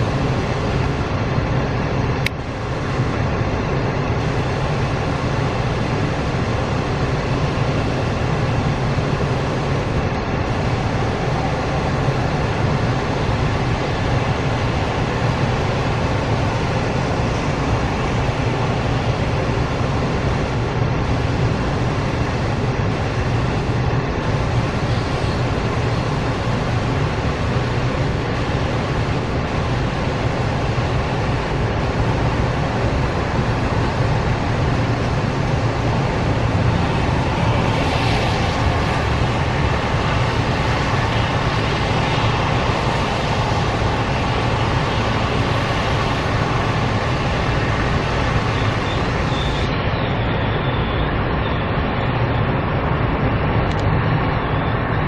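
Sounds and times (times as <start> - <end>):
cars hissing on wet road: 0.0 - 55.0
train wheels rumbling on rail: 0.0 - 55.0.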